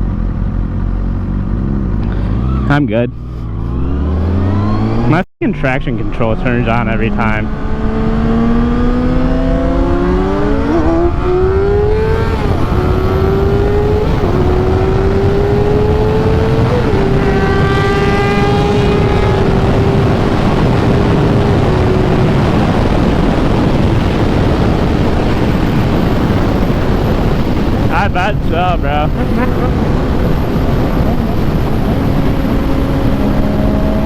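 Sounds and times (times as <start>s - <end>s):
motorcycle engine accelerating: 0.0s - 34.0s
wind and road noise: 0.0s - 34.0s.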